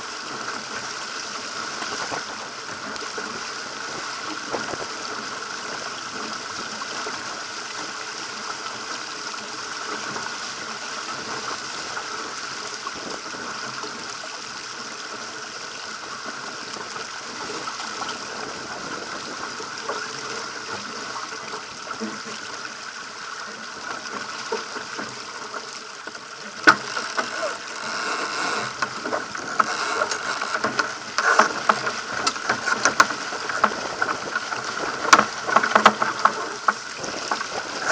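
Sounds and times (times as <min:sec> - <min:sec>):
water rushing along boat hull: 0:00.0 - 0:37.9.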